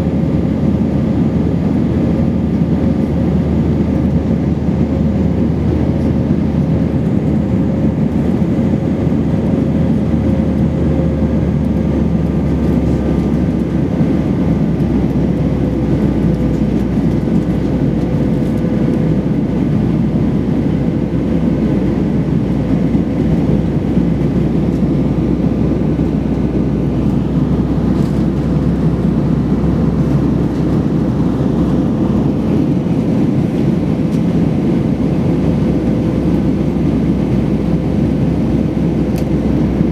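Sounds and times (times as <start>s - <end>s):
constant whining tone: 0.0s - 36.6s
jet engine cabin rumble: 0.0s - 39.9s.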